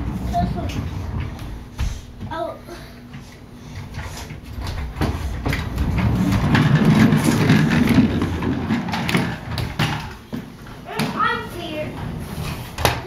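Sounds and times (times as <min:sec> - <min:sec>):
scooter wheels rolling on wooden floor: 0:00.0 - 0:13.0.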